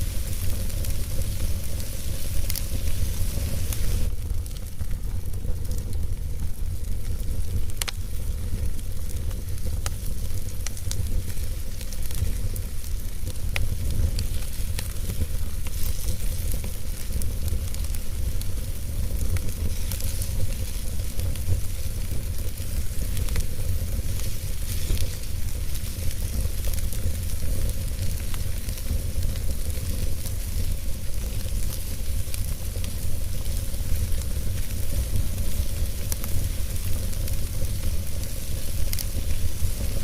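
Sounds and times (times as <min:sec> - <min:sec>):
fire crackling and popping: 0:00.0 - 0:40.0
fire hissing: 0:00.0 - 0:40.0
low steady rumble: 0:00.0 - 0:40.0.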